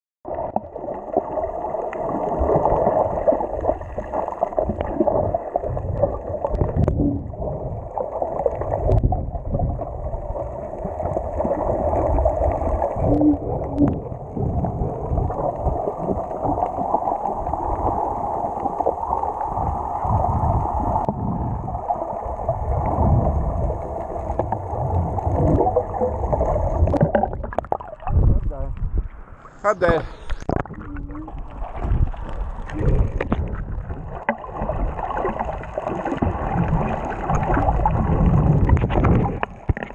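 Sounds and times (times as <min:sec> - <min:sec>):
underwater rushing and sloshing: 0:00.3 - 0:39.9.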